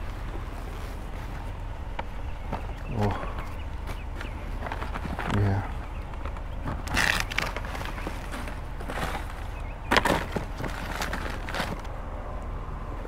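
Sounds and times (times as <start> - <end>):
rustling of paper and plastic: 0.0 - 12.0
steady low rumble: 0.0 - 13.0.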